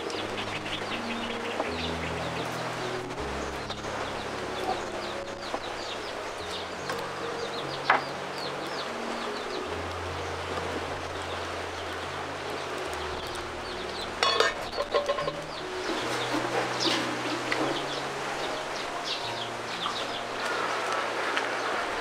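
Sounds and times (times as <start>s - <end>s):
chickens clucking: 0.0s - 22.0s
quiet background music: 0.0s - 22.0s
small birds chirping: 0.0s - 22.0s.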